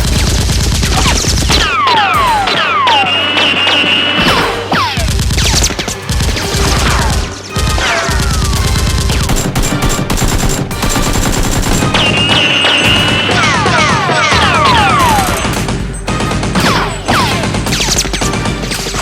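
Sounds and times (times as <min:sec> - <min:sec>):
automatic gunfire: 0:00.0 - 0:18.8
background music: 0:00.0 - 0:19.0.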